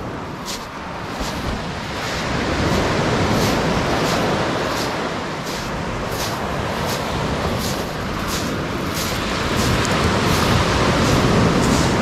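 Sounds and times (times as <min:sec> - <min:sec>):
sea waves on shingle: 0:00.0 - 0:12.0
footsteps on pebbles: 0:00.4 - 0:12.0.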